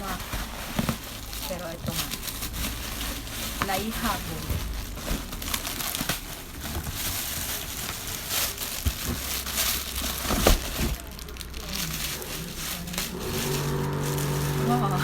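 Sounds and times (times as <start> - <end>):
packaging crinkling and tearing: 0.0 - 15.0.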